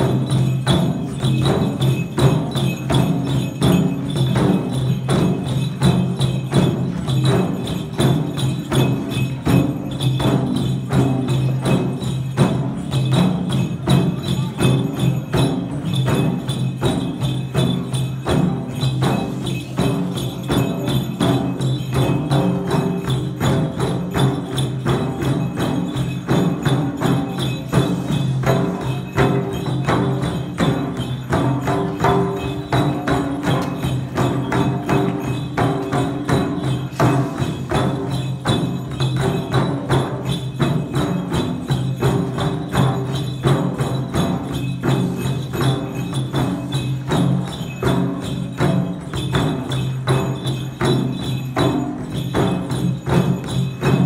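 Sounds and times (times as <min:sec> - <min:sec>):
barrel drums beating dance rhythm: 0:00.0 - 0:54.0.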